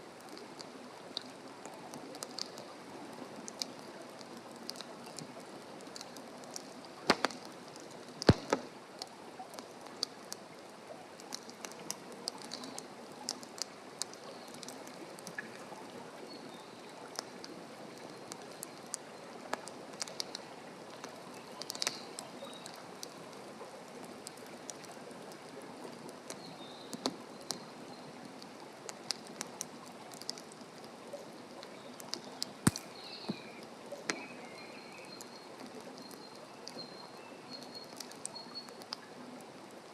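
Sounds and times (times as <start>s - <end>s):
wood fire crackling and popping: 0.2s - 15.7s, 17.0s - 23.3s, 24.0s - 36.9s.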